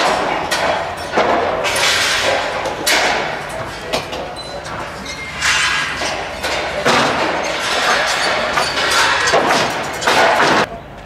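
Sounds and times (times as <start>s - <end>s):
metal panels clattering and thudding: 0.0s - 10.7s.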